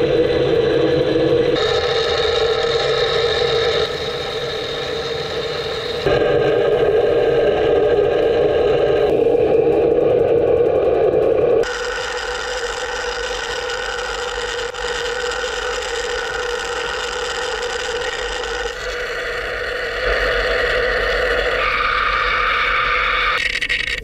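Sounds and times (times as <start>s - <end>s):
steady machine hum: 0.0s - 23.4s.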